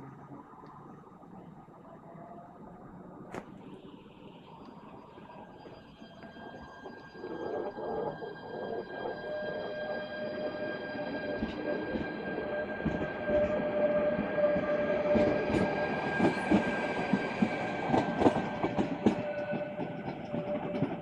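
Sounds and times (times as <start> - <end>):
diesel railcar rumble and whine: 0.0 - 21.0.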